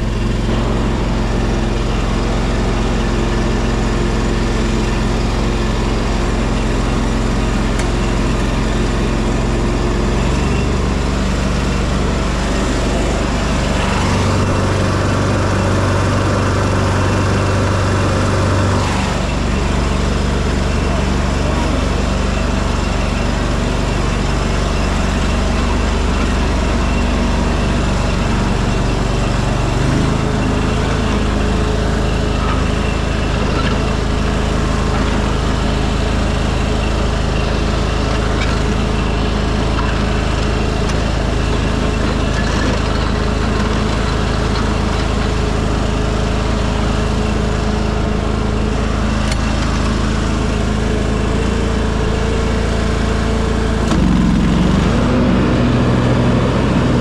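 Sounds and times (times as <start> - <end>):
garden tractor engine mowing: 0.0 - 57.0.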